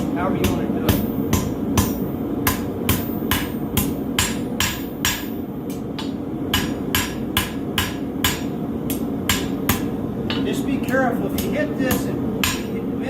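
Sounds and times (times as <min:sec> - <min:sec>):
hammer striking metal on anvil: 0:00.0 - 0:10.6, 0:11.4 - 0:12.8.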